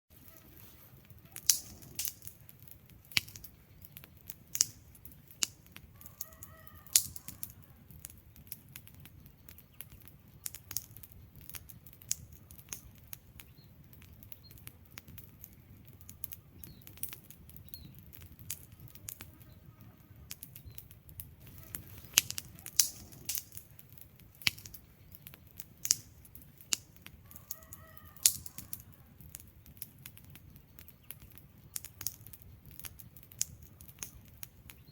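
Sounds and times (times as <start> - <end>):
burning logs popping and snapping: 0.1 - 34.9
low rumble of flames: 0.1 - 34.9.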